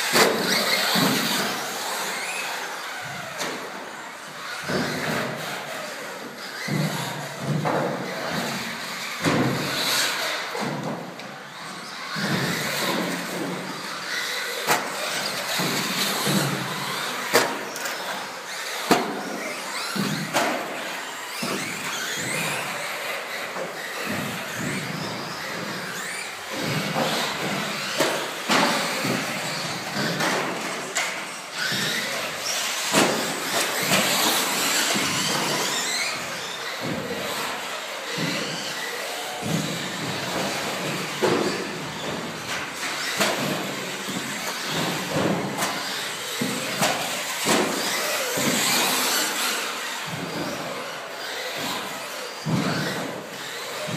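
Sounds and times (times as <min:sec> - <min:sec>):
rc car motors whining: 0:00.0 - 0:53.9.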